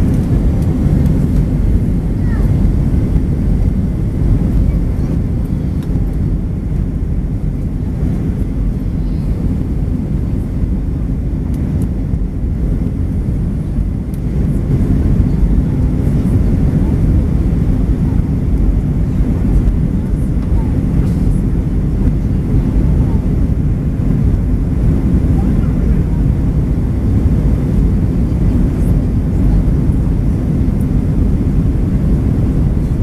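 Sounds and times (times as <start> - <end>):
jet engine cabin rumble: 0.0 - 33.0.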